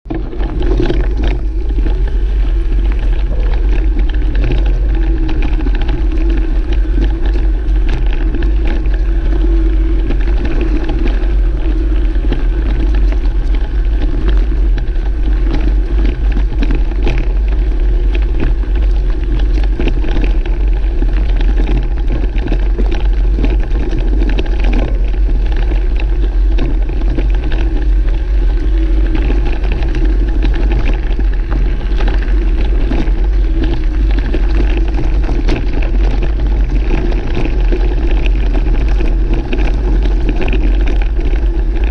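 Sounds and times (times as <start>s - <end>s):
bicycle clicks and rattles: 0.0s - 41.9s
wind buffeting microphone: 0.0s - 41.9s.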